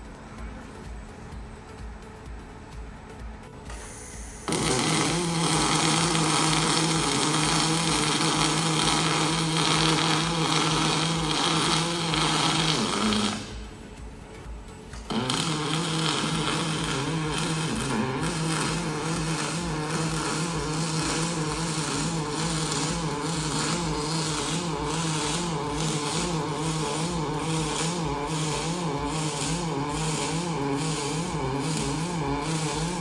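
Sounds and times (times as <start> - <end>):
welding arc buzzing and crackling: 3.6 - 33.0.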